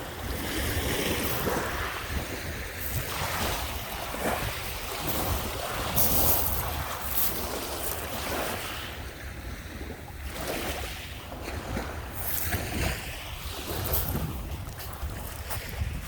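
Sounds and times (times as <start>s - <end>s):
lake waves washing on sand: 0.0s - 16.0s
wind rumbling on microphone: 0.0s - 16.0s.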